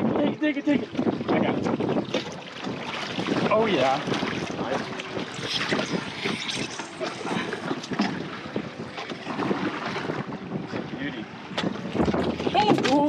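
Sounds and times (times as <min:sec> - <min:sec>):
water sloshing around boat: 0:00.0 - 0:13.0
wind buffeting microphone: 0:00.0 - 0:13.0.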